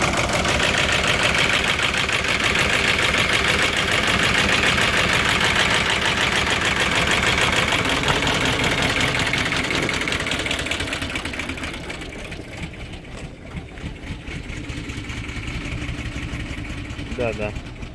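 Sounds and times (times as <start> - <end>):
car engine idling with rattle: 0.0 - 17.9.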